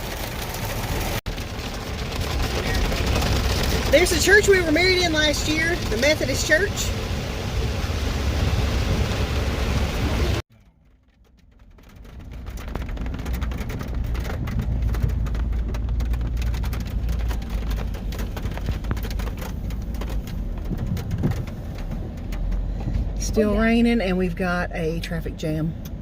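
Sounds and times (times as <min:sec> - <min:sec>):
car engine rumble and road noise: 0:00.0 - 0:26.0
rain ticking on a car: 0:00.0 - 0:26.0.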